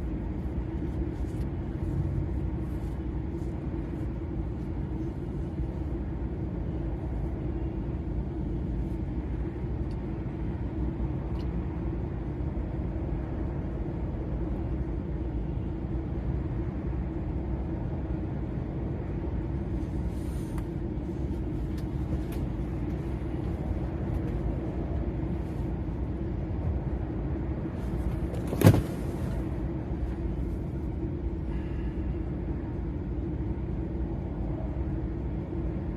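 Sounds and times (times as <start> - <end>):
lorry diesel engine and tyres: 0.0 - 35.9.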